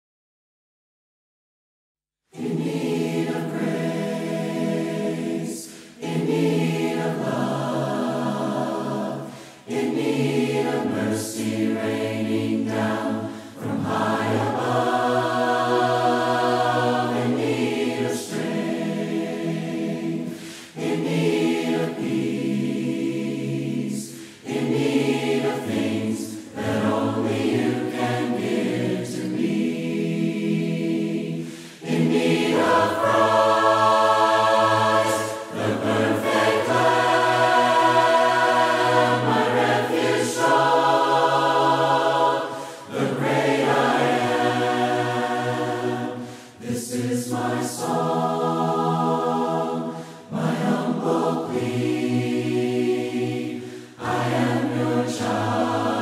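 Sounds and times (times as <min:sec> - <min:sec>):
choir singing a hymn: 0:02.3 - 0:56.0.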